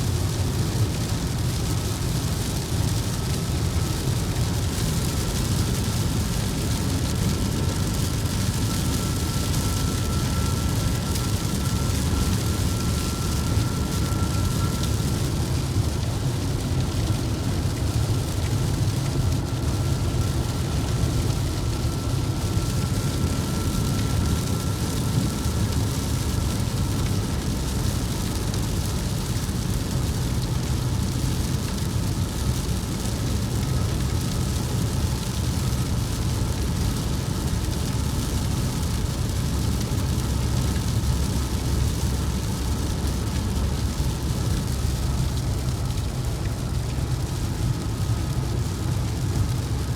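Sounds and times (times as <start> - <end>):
vehicle engine and road noise: 0.0 - 49.9.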